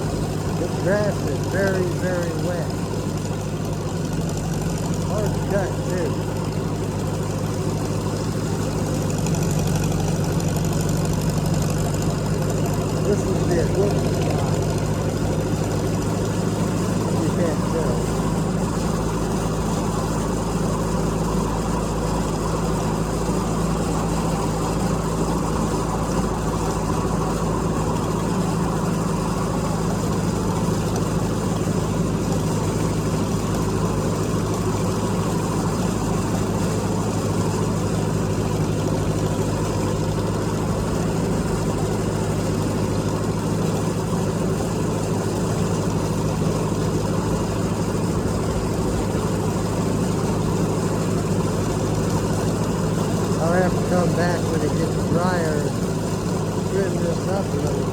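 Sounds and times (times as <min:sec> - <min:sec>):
rotary cutter mowing grass: 0:00.0 - 0:57.9
tractor engine running: 0:00.0 - 0:57.9.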